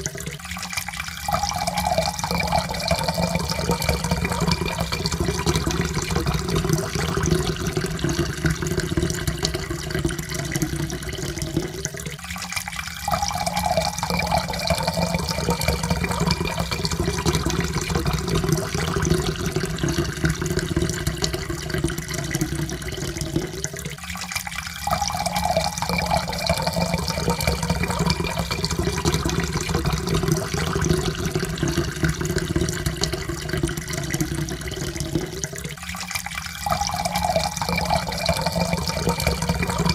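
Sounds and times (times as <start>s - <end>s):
water pouring into a cup: 0.0s - 39.9s.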